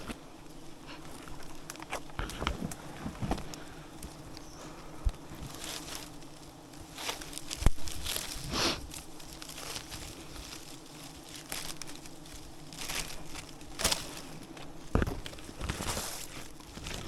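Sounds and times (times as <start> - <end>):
rustling and crinkling handling: 0.0 - 17.0.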